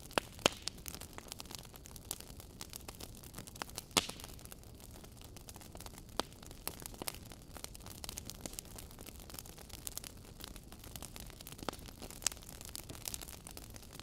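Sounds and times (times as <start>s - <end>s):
logs crackling and popping: 0.0s - 14.0s.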